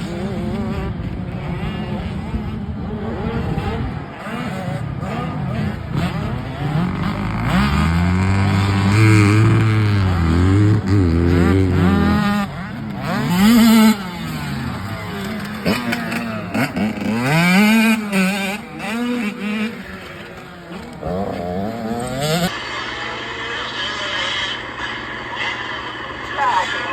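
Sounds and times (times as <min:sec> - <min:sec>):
dirt bike engines revving: 0:00.0 - 0:26.9.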